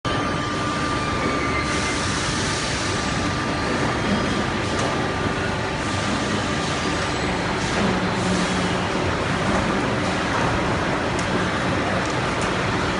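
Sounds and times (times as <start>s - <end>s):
conveyor machinery running: 0.1s - 12.9s.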